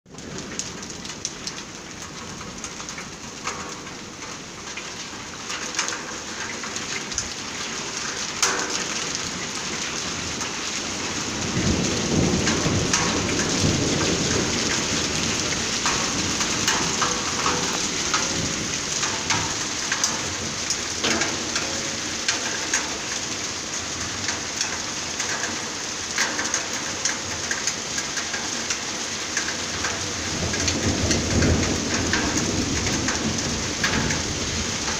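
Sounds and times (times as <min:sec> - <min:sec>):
hail and rain pelting: 0:00.1 - 0:34.9.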